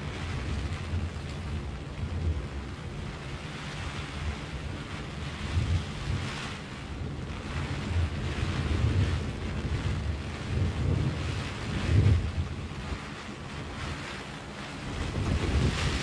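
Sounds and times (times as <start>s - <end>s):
heavy rain on plastic umbrella: 0.0s - 16.0s
wind buffeting microphone: 0.0s - 16.0s.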